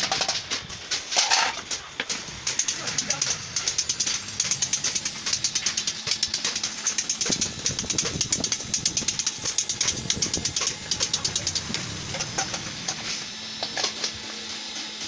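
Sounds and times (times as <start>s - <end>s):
rapid tapping on sheet metal: 0.0s - 13.0s.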